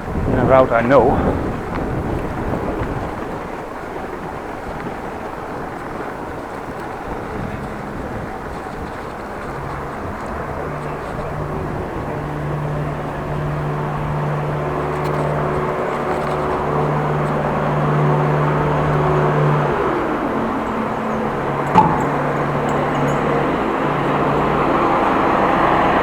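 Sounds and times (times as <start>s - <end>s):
engine low hum: 0.0s - 26.0s
street and riding noise: 0.0s - 26.0s.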